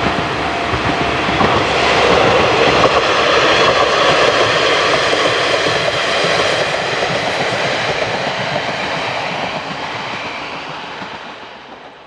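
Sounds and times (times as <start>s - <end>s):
diesel train passing on rails: 0.0s - 12.0s.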